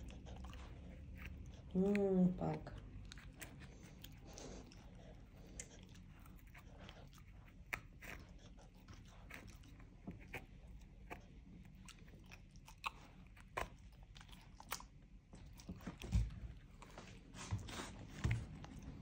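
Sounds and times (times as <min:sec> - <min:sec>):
dog chewing and gnawing: 0:00.0 - 0:19.0.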